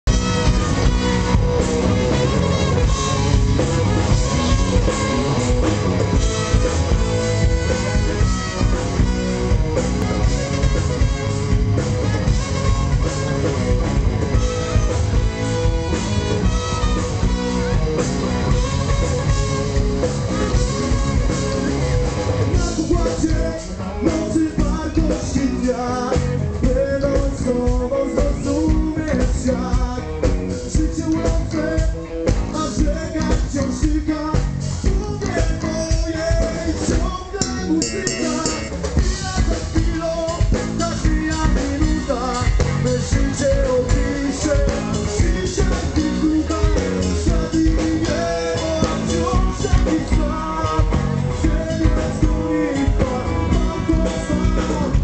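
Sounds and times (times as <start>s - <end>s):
live rock music: 0.0s - 55.0s.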